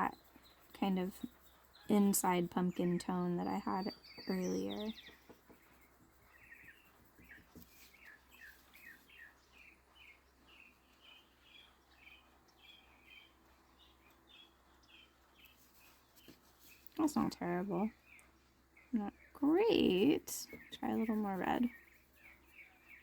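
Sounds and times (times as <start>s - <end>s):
faint bird chirping: 0.0s - 23.0s.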